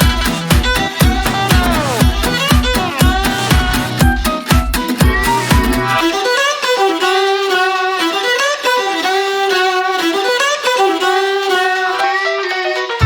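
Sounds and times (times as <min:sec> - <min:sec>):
violin melody with light accompaniment: 0:00.0 - 0:13.0.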